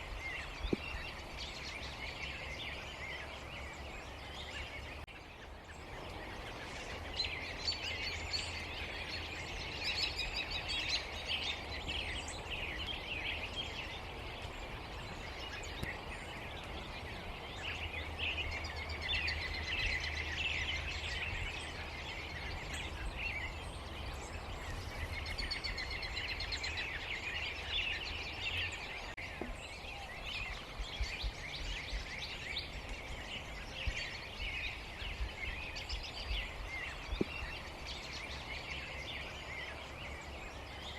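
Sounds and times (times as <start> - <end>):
flock of blackbirds chirping: 0.0 - 40.9.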